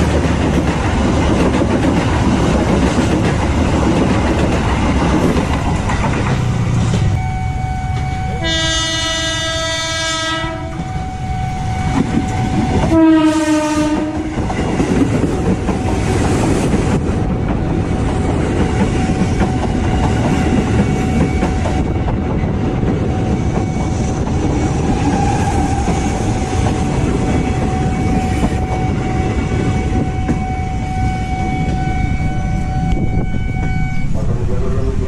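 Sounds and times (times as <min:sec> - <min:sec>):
train wheels rumbling on rails: 0:00.0 - 0:35.0
train motor whine: 0:03.5 - 0:14.5, 0:15.2 - 0:34.2.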